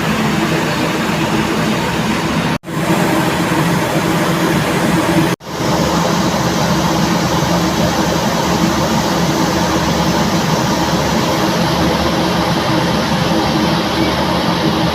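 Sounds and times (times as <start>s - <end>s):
ferry engines droning: 0.0s - 14.9s
rushing noise: 0.0s - 14.9s.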